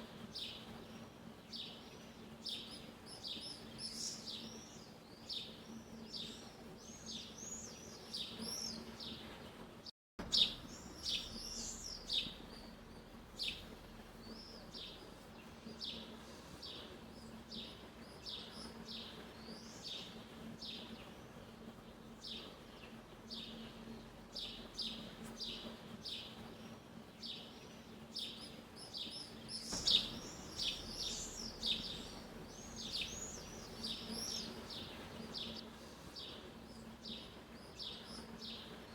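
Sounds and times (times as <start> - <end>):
faint low hum: 0.0 - 38.9
songbirds chirping: 0.0 - 38.9.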